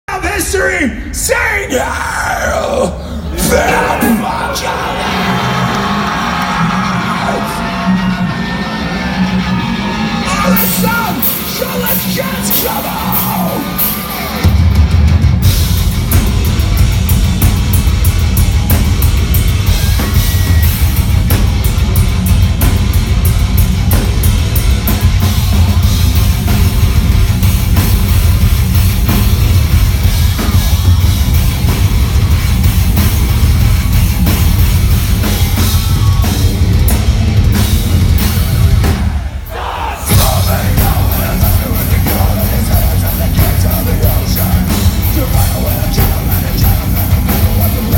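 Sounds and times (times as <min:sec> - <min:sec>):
heavy metal band playing live: 0:00.1 - 0:47.9.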